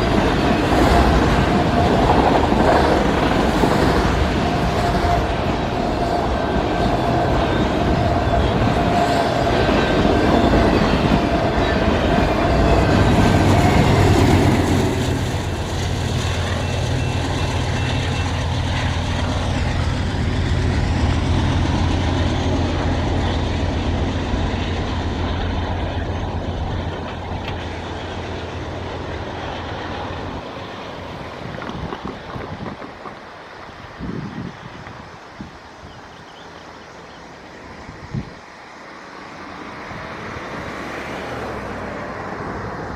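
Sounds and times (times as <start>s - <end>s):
train wheels clattering on rails: 0.0s - 35.1s
diesel locomotive engine rumble: 0.0s - 42.9s.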